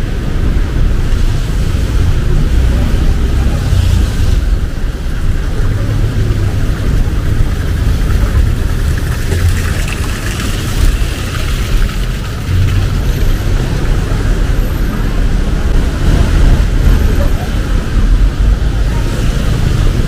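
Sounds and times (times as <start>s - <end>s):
traffic engine rumble: 0.0s - 20.0s.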